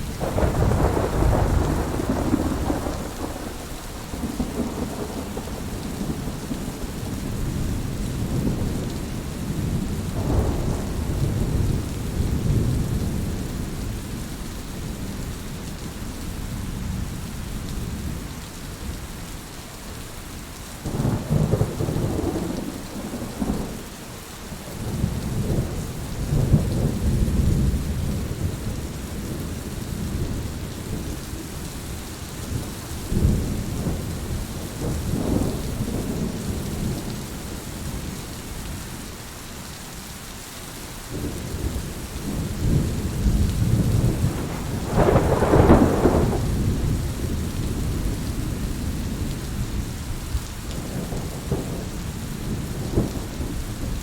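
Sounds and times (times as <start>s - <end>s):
rolling thunder: 0.0s - 15.2s, 20.8s - 38.2s, 41.1s - 54.0s
heavy rain: 0.0s - 54.0s.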